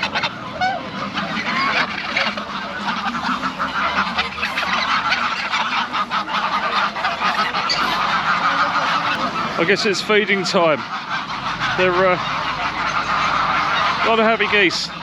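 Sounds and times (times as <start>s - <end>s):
flock of geese honking: 0.0s - 15.0s.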